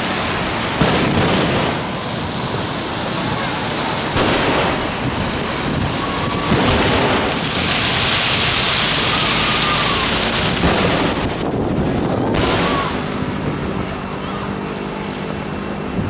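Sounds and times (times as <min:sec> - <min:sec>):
firework shells bursting: 0:00.0 - 0:13.9
sharp firework bangs: 0:00.0 - 0:14.9
rumble and crackle: 0:00.0 - 0:16.0.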